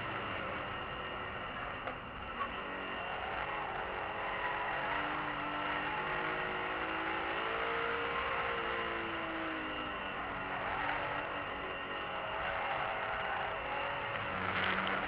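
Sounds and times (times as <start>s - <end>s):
car engine accelerating: 0.0s - 15.0s
road and tyre noise: 0.0s - 15.0s.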